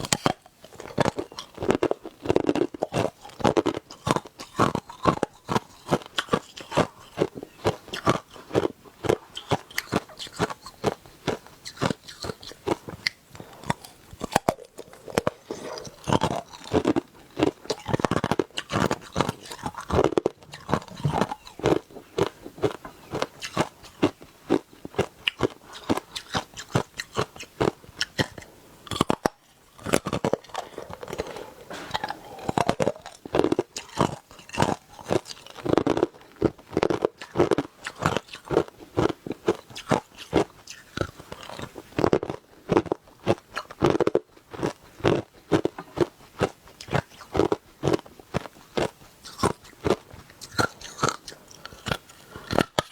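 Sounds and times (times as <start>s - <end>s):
ice crunching being chewed: 0.0s - 52.9s.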